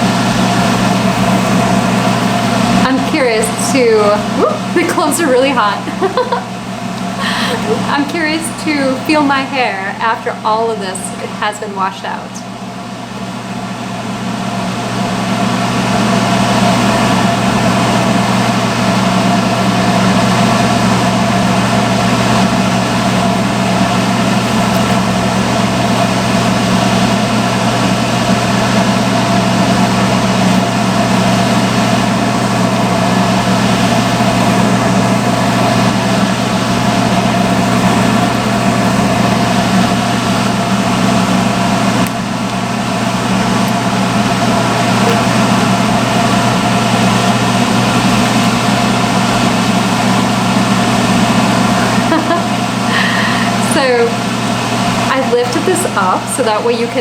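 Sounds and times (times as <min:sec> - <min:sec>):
hood hair dryer running: 0:00.0 - 0:57.0.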